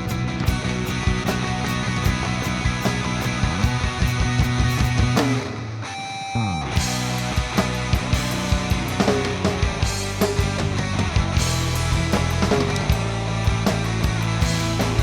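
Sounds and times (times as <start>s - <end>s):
instrumental rock band playing: 0.0s - 15.0s.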